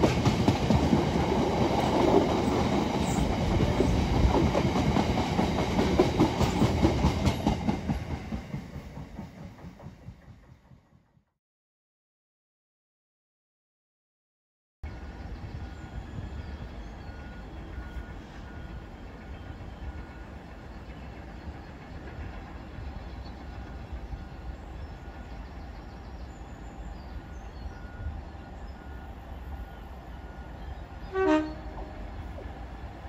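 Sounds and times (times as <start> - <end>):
distant diesel locomotive rumble: 0.0 - 11.1, 14.8 - 33.0.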